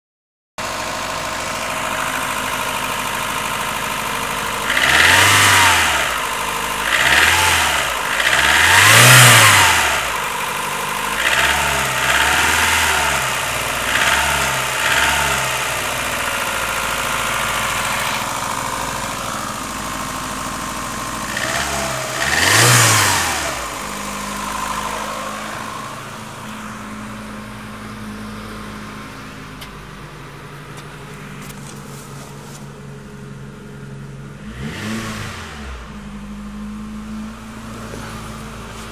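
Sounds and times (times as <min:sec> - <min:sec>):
car engine idling and revving: 0:00.6 - 0:38.9.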